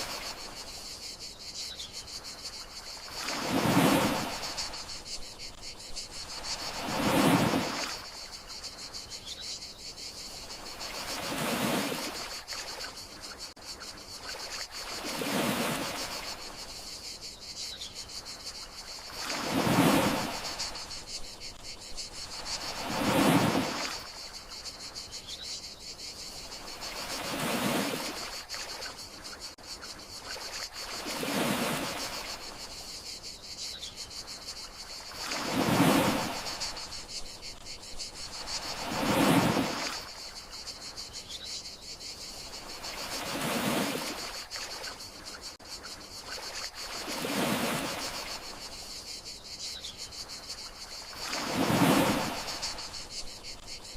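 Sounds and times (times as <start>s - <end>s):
crickets chirring: 0.0s - 53.9s
gentle sea waves: 0.0s - 53.9s.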